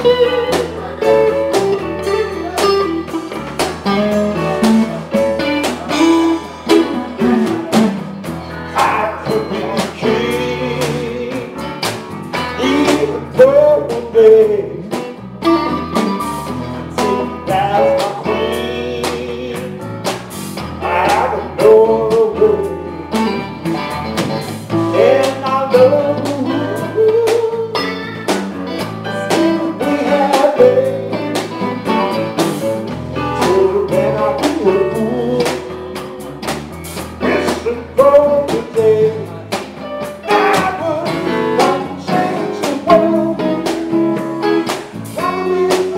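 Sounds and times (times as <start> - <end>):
bass guitar: 0.0 - 45.9
drums: 0.0 - 45.9
electric guitar melody: 0.0 - 45.9
keyboards: 0.0 - 45.9.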